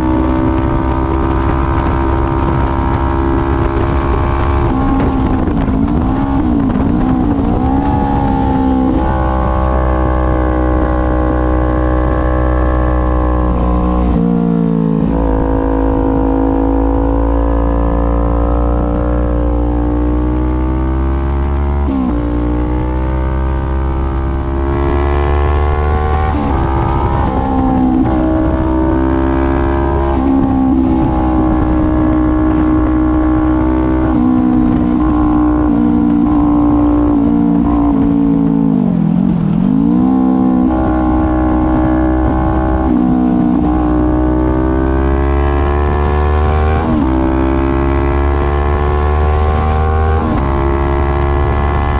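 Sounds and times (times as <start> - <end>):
motorcycle engine running hard: 0.0 - 51.9.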